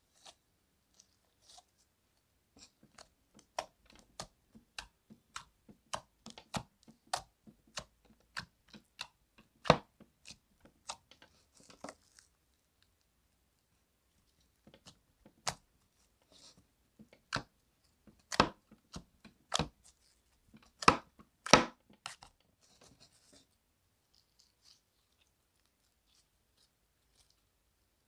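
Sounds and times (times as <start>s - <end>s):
faint slime crackling: 0.0s - 28.0s.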